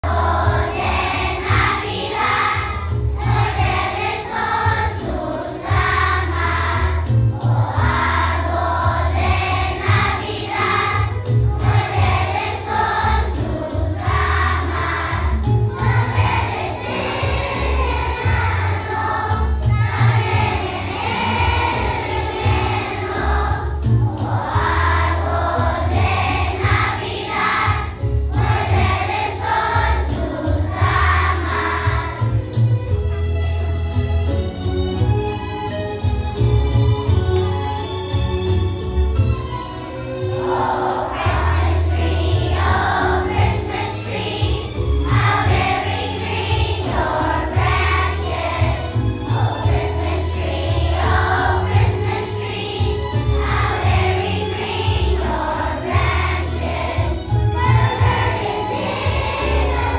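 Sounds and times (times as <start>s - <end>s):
children's choir singing: 0.0s - 32.7s, 39.7s - 59.9s
instrumental accompaniment with bass: 0.0s - 59.9s.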